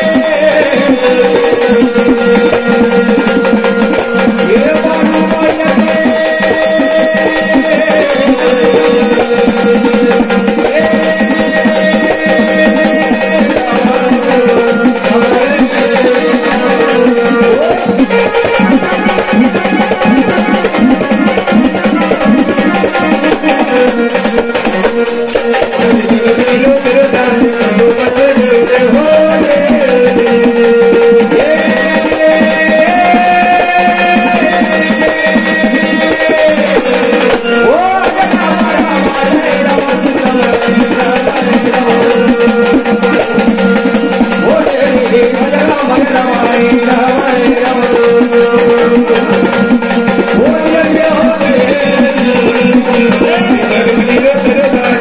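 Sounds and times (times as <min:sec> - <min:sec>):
fast hand-drumming: 0:00.0 - 0:55.0.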